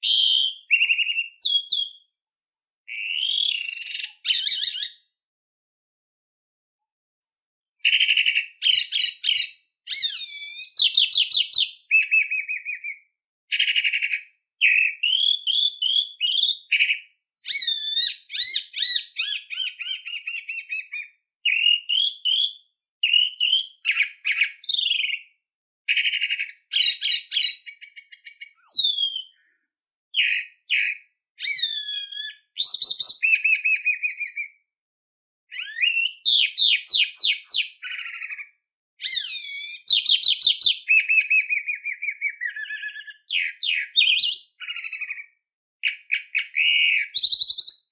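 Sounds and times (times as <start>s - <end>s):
songbird singing: 0.0s - 5.2s, 7.2s - 34.6s, 35.5s - 47.9s.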